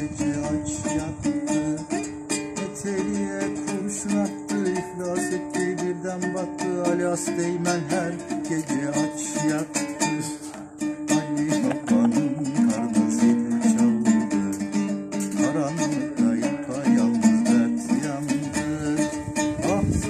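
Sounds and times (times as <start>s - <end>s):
two-stringed lute strummed: 0.0s - 20.0s.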